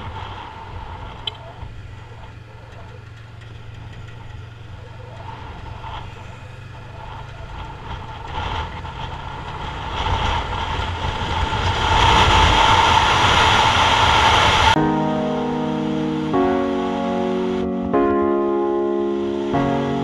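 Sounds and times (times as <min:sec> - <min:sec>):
motorcycle engine running: 0:00.0 - 0:20.0
road and wind rush: 0:00.0 - 0:20.0.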